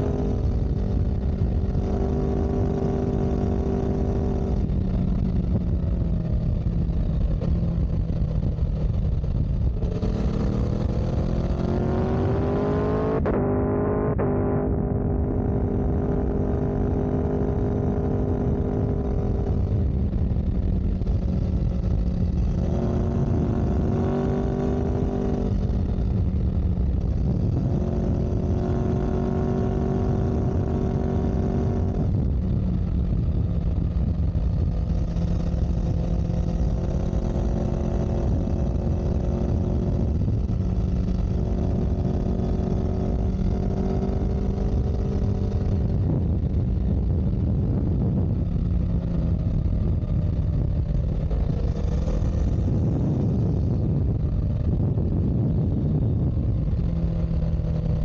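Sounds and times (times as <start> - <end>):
vehicle engine revving: 0.0 - 5.0, 7.4 - 58.0.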